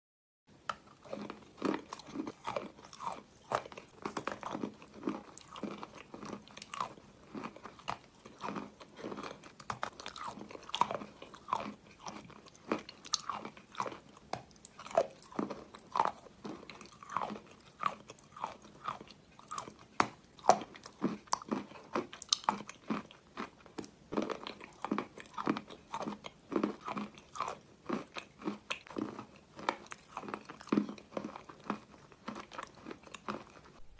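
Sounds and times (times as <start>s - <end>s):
chalk being bitten and chewed: 0.7s - 33.9s.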